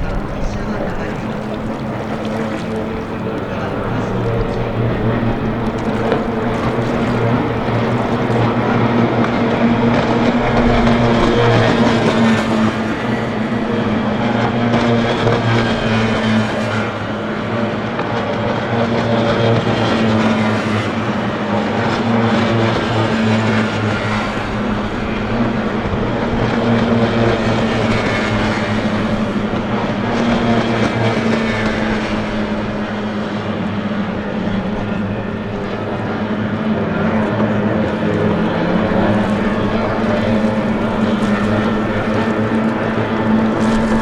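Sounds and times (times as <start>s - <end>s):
outboard engines droning: 0.0s - 44.0s
water noise: 0.0s - 44.0s
wind noise: 0.0s - 44.0s.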